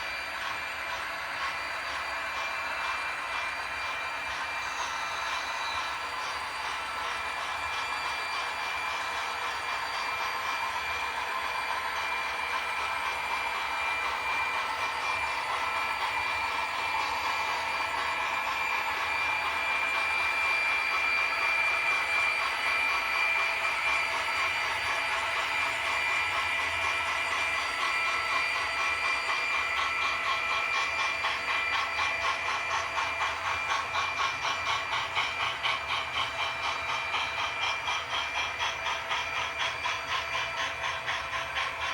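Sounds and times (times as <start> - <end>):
electric whine of model locomotives: 0.0 - 41.9
wheels clicking on track: 0.0 - 41.9.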